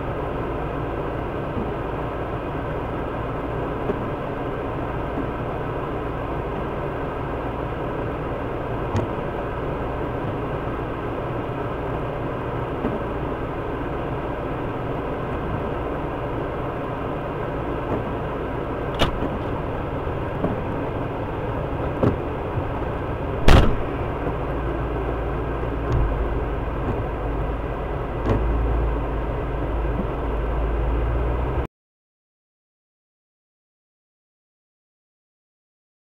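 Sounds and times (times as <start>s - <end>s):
vehicle engine idling: 0.0s - 31.7s.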